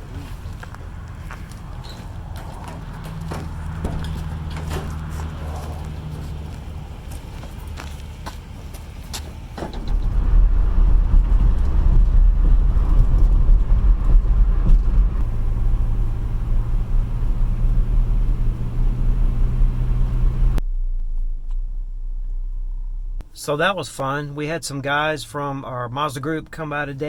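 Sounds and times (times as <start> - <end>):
vehicle engine rumbling: 0.0 - 26.6.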